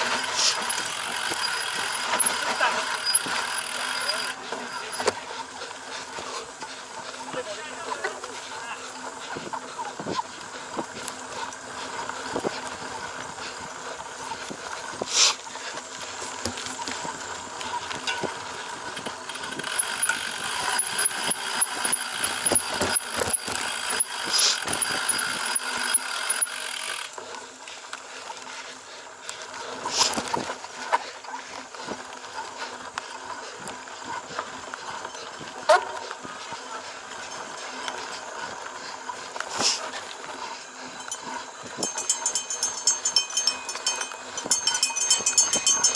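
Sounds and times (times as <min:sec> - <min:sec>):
bicycle clicks and knocks on bumps: 0:00.0 - 0:45.9
bicycle drivetrain and tyre noise: 0:00.0 - 0:45.9.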